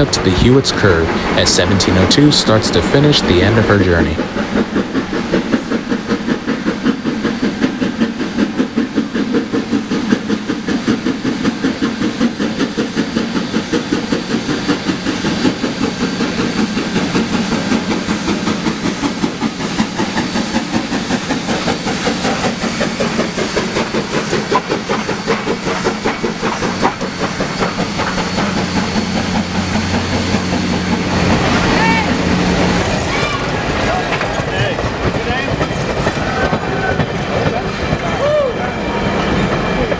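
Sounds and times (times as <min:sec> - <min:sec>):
steady steam hiss: 0:00.0 - 0:33.6
steam locomotive exhaust chuffing: 0:00.0 - 0:39.9.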